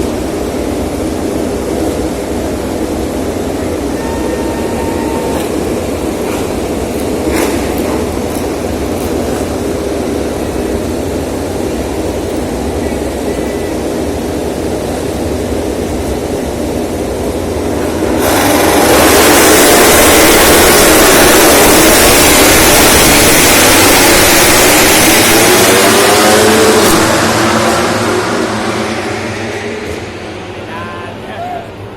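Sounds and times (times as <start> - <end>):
many motorcycles accelerating hard: 0.0 - 12.6, 14.2 - 30.7
motorcycle engines rumbling: 0.0 - 31.9.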